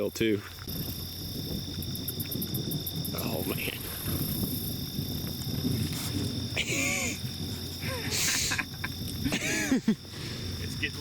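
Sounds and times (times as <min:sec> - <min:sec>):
insects chirring high tones: 0:00.0 - 0:11.0.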